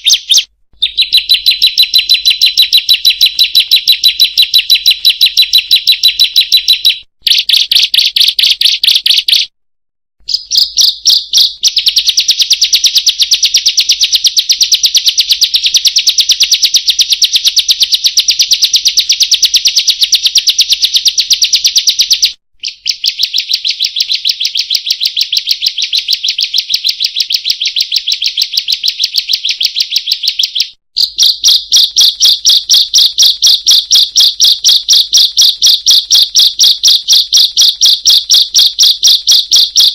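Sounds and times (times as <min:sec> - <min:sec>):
bird sharp chirps: 0:00.0 - 0:09.5, 0:10.2 - 0:17.1, 0:18.2 - 0:39.9.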